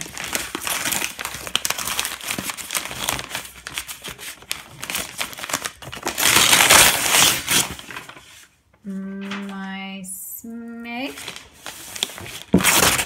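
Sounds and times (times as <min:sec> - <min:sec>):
parcel wrapping crinkling: 0:00.0 - 0:08.6, 0:09.2 - 0:09.8, 0:11.0 - 0:13.0.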